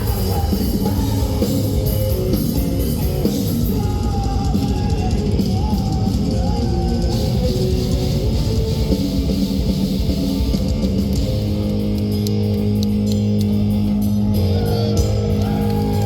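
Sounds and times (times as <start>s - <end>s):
death metal band playing: 0.0s - 16.0s
distorted guitars with melodic lead: 0.0s - 16.0s.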